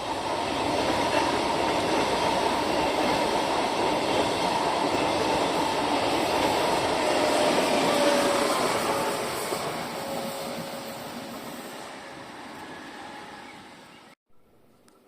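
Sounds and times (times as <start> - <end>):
train rolling on rails: 0.0 - 14.2.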